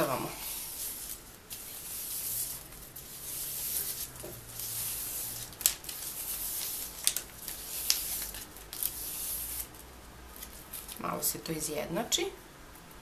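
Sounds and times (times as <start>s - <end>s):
ribbon crinkles: 0.0s - 11.0s
plastic ribbon rustling: 0.0s - 11.2s.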